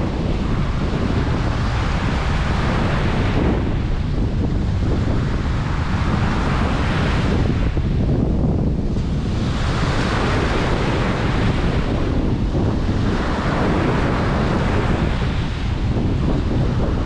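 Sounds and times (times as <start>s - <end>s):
ocean surf washing up beach: 0.0s - 17.0s
steady low rumble: 0.0s - 17.0s.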